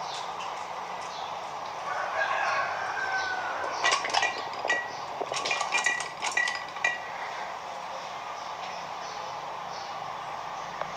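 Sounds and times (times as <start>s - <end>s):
steady background hiss: 0.0s - 10.9s.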